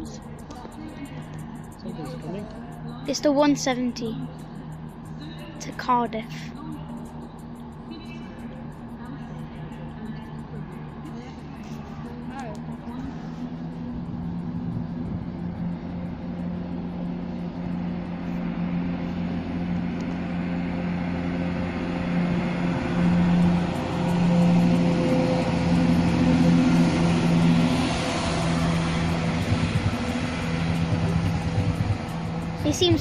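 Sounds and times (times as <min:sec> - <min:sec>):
diesel train engines droning: 0:00.0 - 0:33.0.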